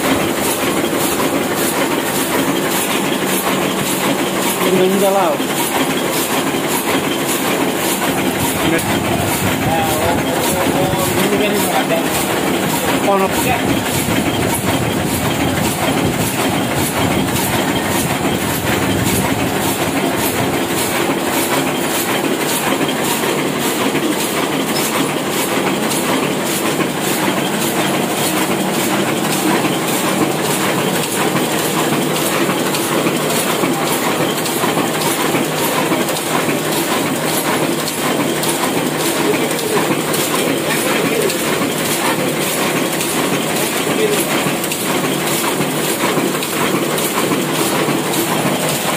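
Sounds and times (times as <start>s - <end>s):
printing press clattering: 0.0s - 48.9s.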